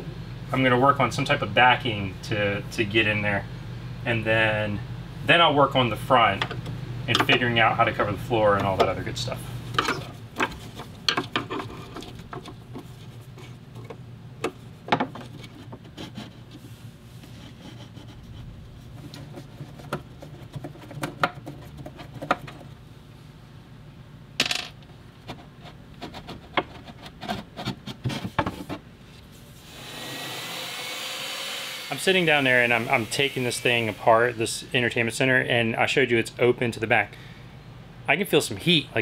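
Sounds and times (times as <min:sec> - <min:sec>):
low steady hum: 0:00.0 - 0:29.7, 0:31.8 - 0:39.0.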